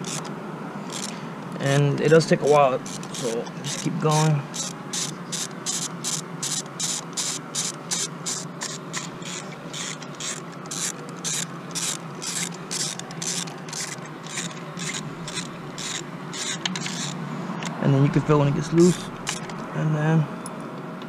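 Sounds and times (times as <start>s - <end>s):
socket ratchet clicking: 0.0s - 0.3s, 0.9s - 17.8s, 18.7s - 19.6s.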